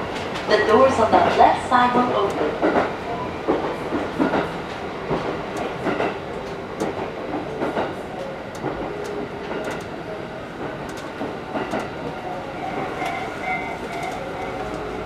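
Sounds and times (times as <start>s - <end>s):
railcar rumbling along track: 0.0s - 15.0s
wheels clicking over rail joints: 0.0s - 15.0s.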